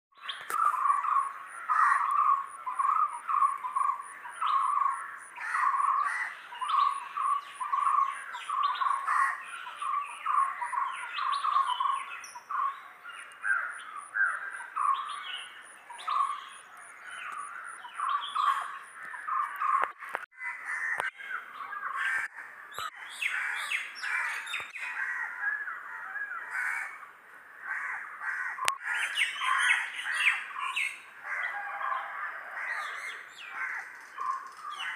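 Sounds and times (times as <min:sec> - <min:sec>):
birds calling and chirping: 0:00.1 - 0:34.9.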